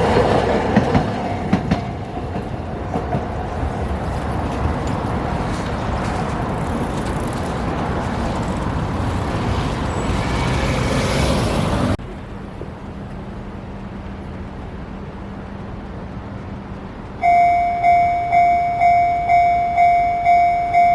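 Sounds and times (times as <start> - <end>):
tram wheels and motor rumbling: 0.0 - 18.5.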